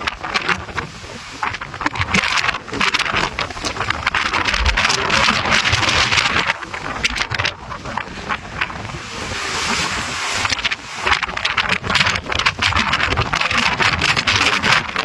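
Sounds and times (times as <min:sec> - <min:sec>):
wind gusting against microphone: 0:00.0 - 0:15.0.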